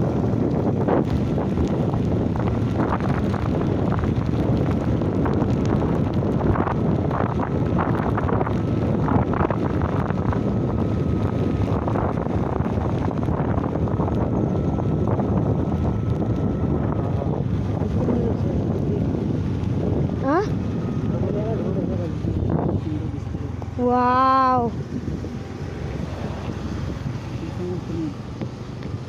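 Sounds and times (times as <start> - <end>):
scattered rain taps: 0.0 - 24.0, 28.1 - 29.0
heavy rain: 0.0 - 29.0
wind buffeting microphone: 0.0 - 29.0.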